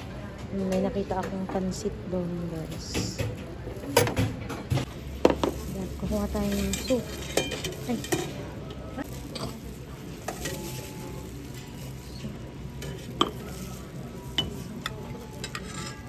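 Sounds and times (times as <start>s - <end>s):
utensils and dishes clinking: 0.1s - 16.0s.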